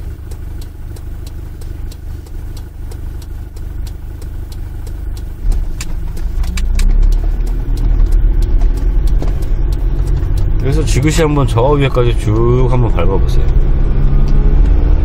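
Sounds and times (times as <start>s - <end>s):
steady ticking: 0.0s - 14.9s
diesel engine running: 0.0s - 15.0s.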